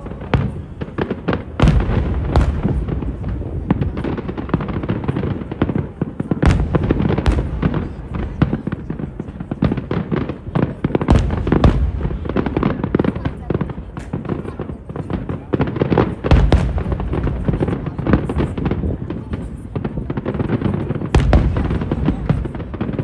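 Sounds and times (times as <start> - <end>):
fireworks bangs and crackles: 0.0 - 23.0
heavy firework booms: 0.0 - 23.0.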